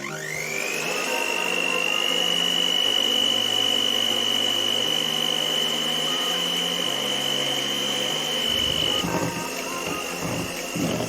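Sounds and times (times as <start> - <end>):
appliance motor whining: 0.0 - 11.0
soft background music: 0.0 - 11.0.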